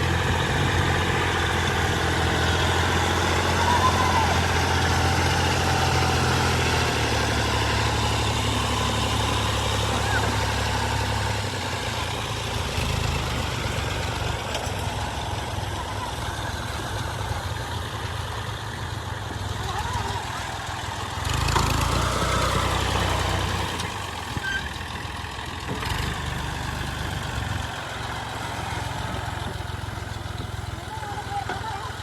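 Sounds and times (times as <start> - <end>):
diesel engine running: 0.0 - 32.0
harvester machinery working: 0.0 - 32.0.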